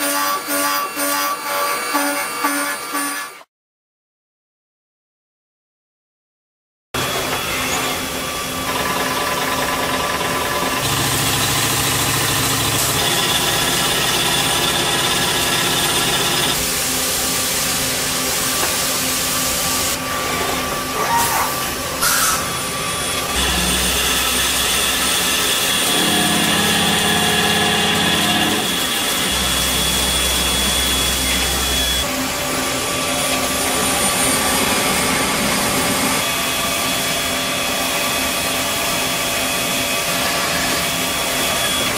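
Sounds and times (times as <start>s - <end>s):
metal machining noise: 7.0s - 41.9s.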